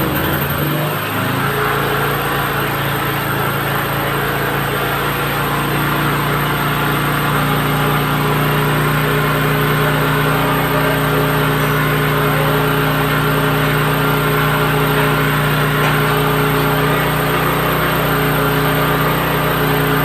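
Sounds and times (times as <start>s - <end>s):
drilling rig engine running: 0.0s - 20.0s.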